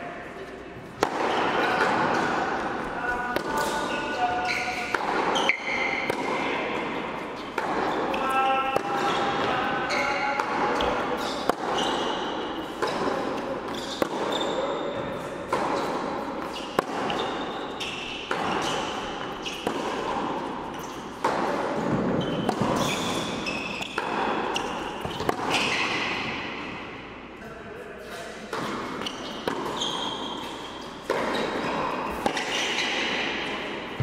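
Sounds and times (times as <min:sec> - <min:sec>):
tennis balls bouncing on court: 0:00.8 - 0:27.0, 0:28.5 - 0:34.0
tennis balls struck with rackets: 0:00.8 - 0:27.1, 0:28.5 - 0:34.0.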